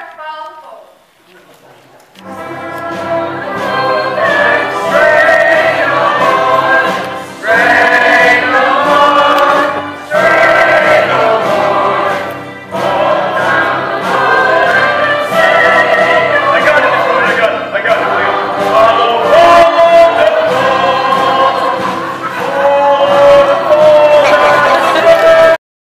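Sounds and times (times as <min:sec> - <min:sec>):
ensemble singing in chorus: 0:02.2 - 0:25.6
orchestra with brass and strings: 0:02.2 - 0:25.6.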